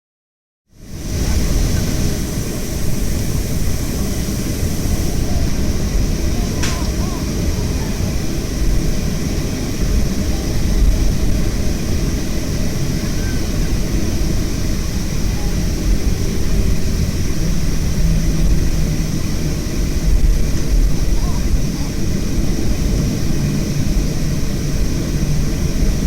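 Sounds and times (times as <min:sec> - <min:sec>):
jet engines running: 0:00.8 - 0:26.0.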